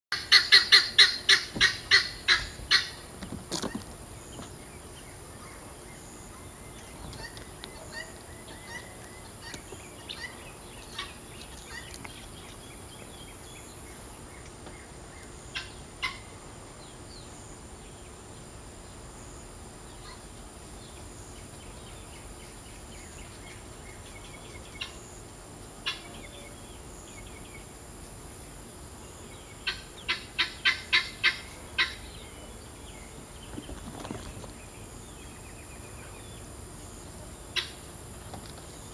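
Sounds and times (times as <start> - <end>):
chickens calling: 0.1 - 17.4, 19.8 - 27.8, 29.1 - 36.5, 37.4 - 38.9.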